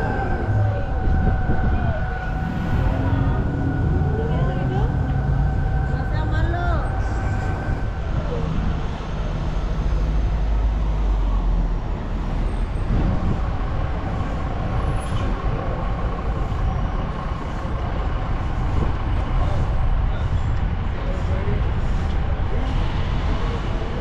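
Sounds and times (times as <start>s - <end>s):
car driving road noise: 0.0s - 24.0s.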